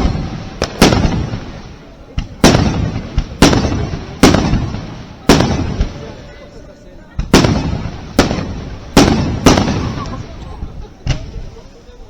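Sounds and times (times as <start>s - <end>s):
firework shells bursting: 0.0s - 6.2s, 7.2s - 11.3s
small firework cracks: 0.0s - 6.4s, 7.1s - 11.4s.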